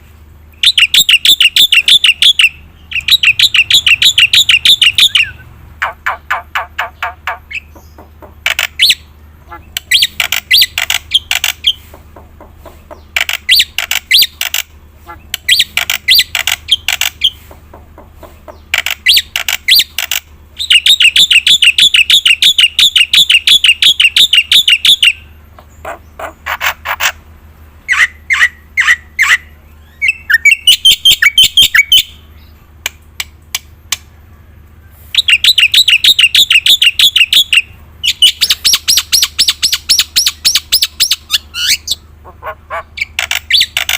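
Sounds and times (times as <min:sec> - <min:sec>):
starling singing: 0:00.5 - 0:27.2, 0:27.8 - 0:32.7, 0:33.6 - 0:43.9.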